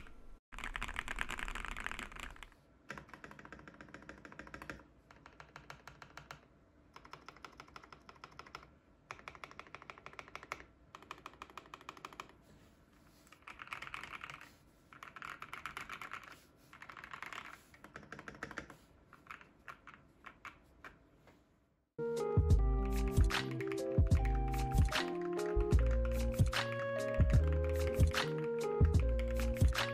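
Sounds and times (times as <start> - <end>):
mechanical keyboard typing: 0.0 - 12.4, 13.3 - 21.0, 22.8 - 29.9.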